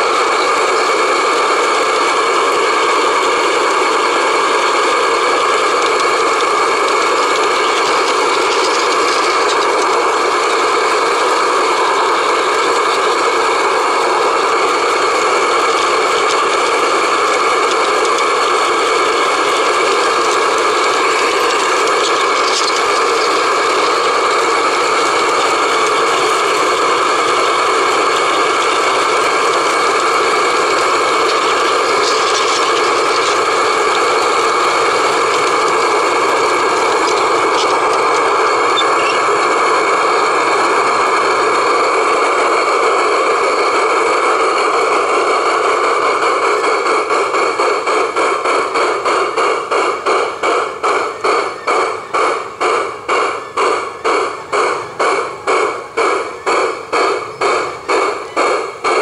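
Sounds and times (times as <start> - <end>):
model train motor whine: 0.0 - 59.0
wheels rattling on rails: 0.0 - 59.0.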